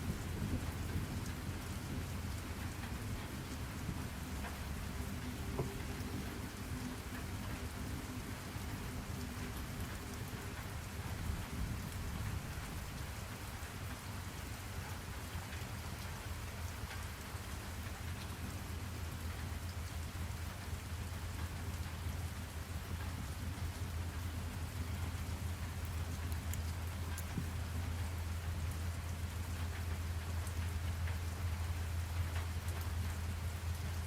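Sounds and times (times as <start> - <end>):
constant low rumble: 0.0 - 34.0
rain drop ticks: 0.0 - 34.0
rain hiss: 0.0 - 34.0.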